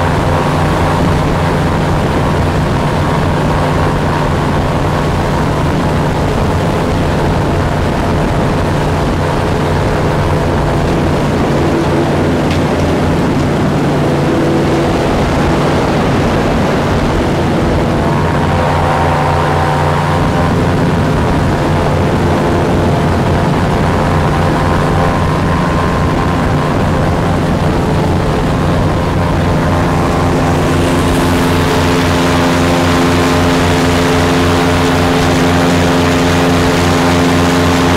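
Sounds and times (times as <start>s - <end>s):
airboat engine and propeller: 0.0s - 37.9s.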